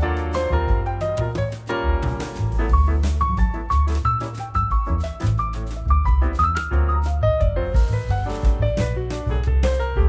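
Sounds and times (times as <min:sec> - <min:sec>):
music with heavy bass and beat: 0:00.0 - 0:10.0.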